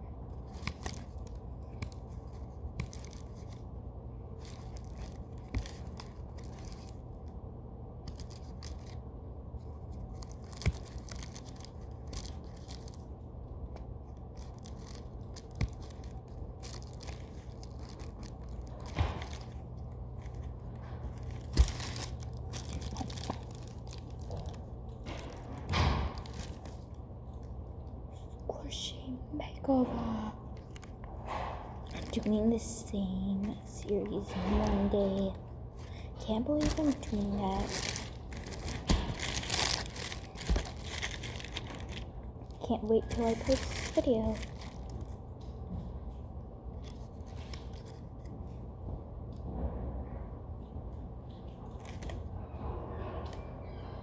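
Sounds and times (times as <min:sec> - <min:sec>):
squishy material rustling and scraping: 0:00.0 - 0:28.0, 0:29.6 - 0:48.6
steady low hum: 0:00.0 - 0:54.0.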